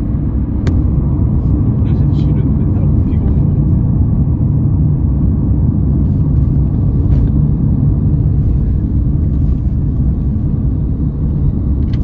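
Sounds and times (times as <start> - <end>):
vehicle rumbling in motion: 0.0 - 12.0.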